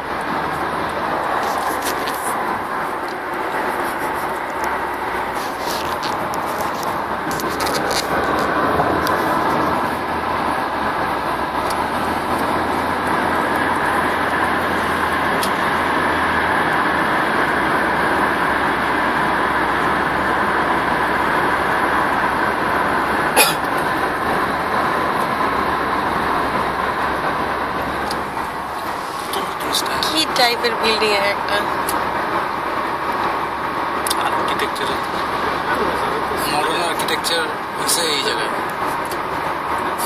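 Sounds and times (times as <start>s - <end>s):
road and wind noise in car: 0.0s - 40.0s.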